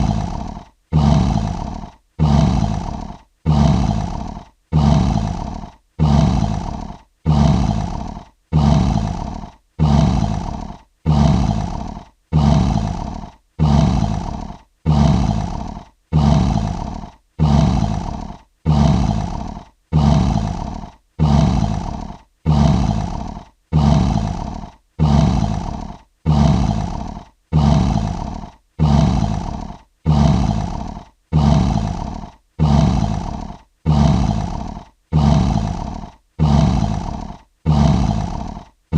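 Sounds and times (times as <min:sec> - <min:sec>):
lion grunting roars: 0:00.0 - 0:38.8.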